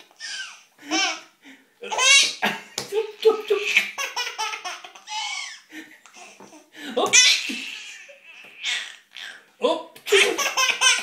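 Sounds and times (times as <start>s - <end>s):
baby laughing: 0.0s - 9.5s, 10.1s - 11.0s.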